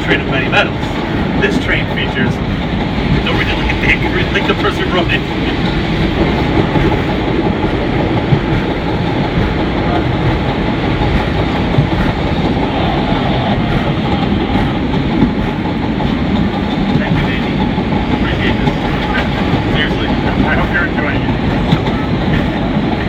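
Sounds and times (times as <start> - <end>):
subway train wheels rumbling on rails: 0.0 - 23.0.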